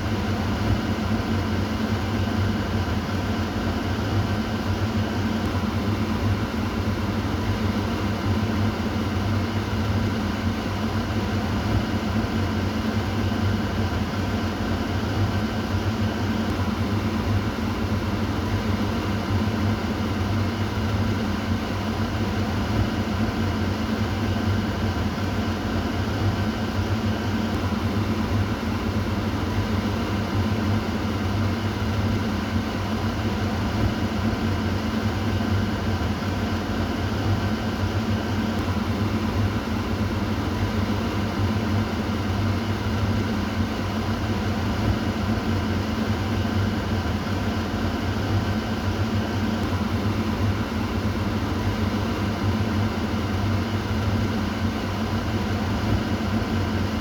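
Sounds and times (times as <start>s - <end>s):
exhaust fan humming: 0.0s - 57.0s.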